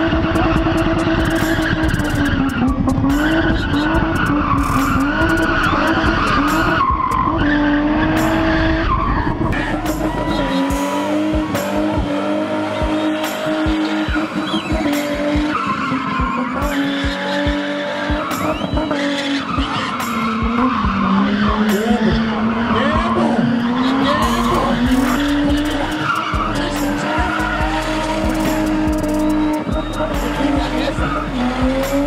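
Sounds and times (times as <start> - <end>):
car engine revving high: 0.0 - 32.0
tyres screeching: 0.1 - 32.0.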